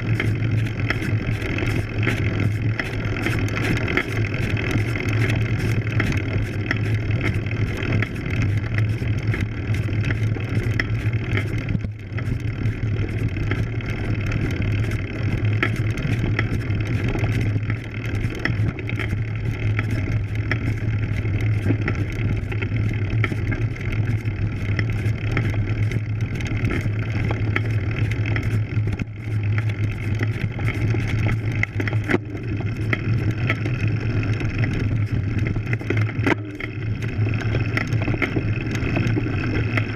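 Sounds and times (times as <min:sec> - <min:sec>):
bike rattling clicks: 0:00.0 - 0:39.9
bike tyres rolling on dirt: 0:00.0 - 0:39.9.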